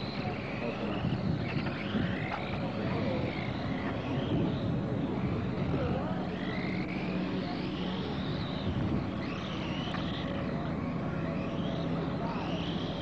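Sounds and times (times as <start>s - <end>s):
model race cars whining past: 0.0s - 13.0s.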